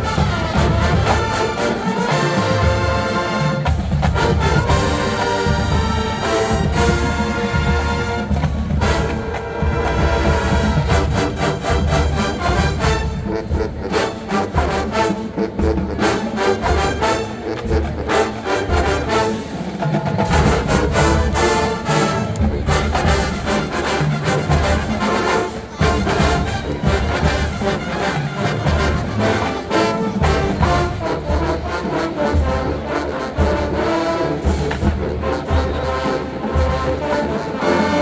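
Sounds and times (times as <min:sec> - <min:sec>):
brass section playing: 0:00.0 - 0:38.0
drumline: 0:00.0 - 0:38.0.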